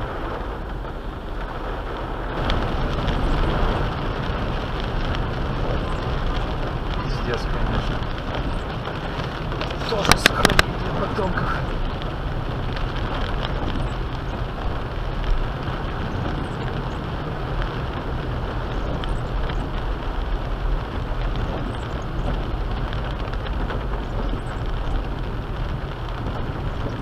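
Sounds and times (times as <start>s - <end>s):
car low rumble: 0.0s - 27.0s
rain pattering on car: 0.0s - 27.0s.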